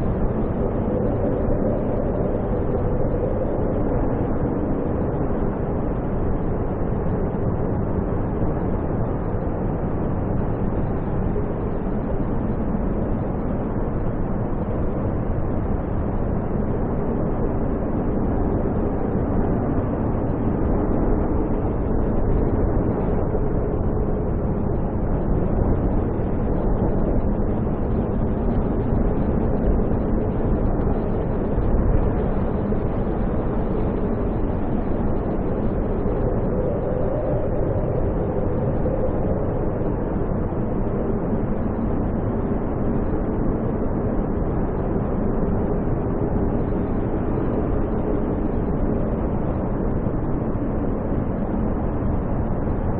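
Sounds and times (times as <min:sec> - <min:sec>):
snowstorm wind blowing: 0:00.0 - 0:52.9.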